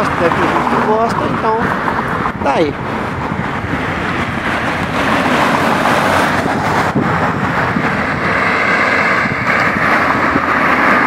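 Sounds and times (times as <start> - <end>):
road traffic rushing: 0.0 - 11.0
wind buffeting microphone: 0.0 - 11.0.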